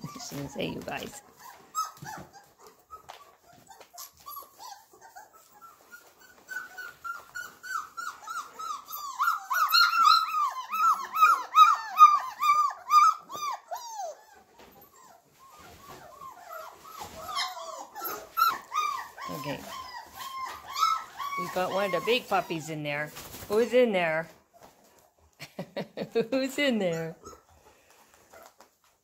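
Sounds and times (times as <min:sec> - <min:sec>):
puppy whining: 0:00.0 - 0:23.8, 0:24.5 - 0:29.0.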